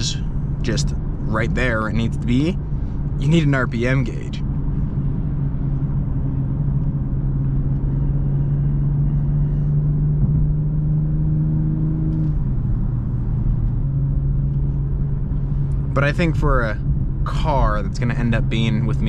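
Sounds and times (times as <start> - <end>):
car engine drone: 0.0 - 19.0
road and tyre rumble: 0.0 - 19.0.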